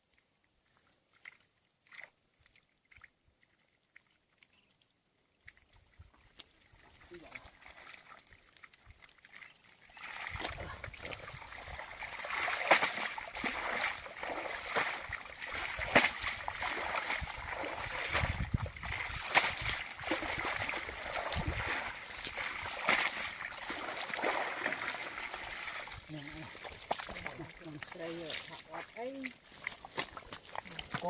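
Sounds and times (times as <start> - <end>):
water splashing and trickling: 0.0 - 31.0.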